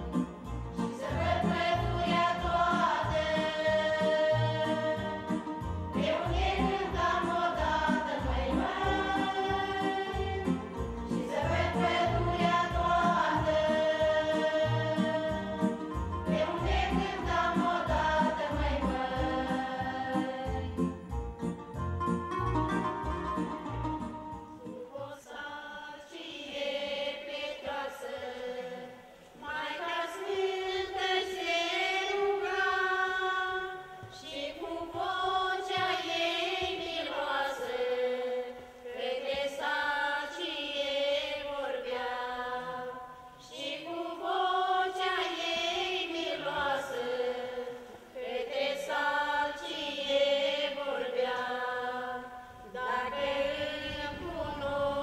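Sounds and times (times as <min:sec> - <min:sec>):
women's choir singing: 0:00.0 - 0:21.1, 0:24.1 - 0:55.0.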